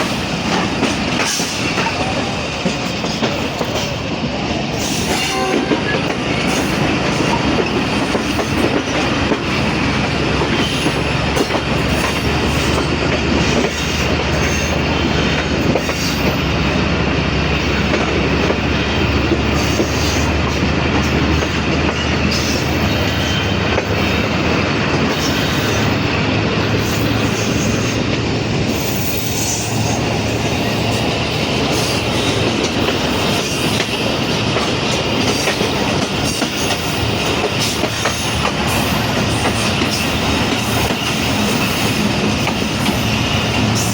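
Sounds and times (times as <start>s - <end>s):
train wheels clacking on rails: 0.0s - 43.9s.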